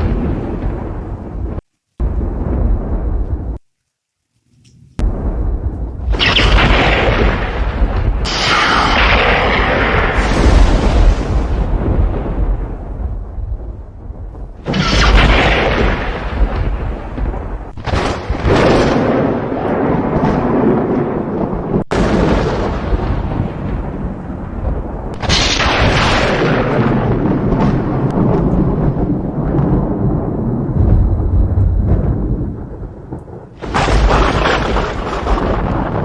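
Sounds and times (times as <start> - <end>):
rolling thunder rumble: 0.0 - 3.6, 5.0 - 36.0
thunder cracks: 0.0 - 3.6, 5.0 - 36.0.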